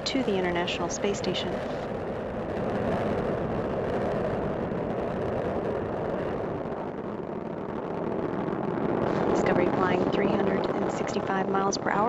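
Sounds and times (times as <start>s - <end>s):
rocket engines rumbling: 0.0s - 12.0s.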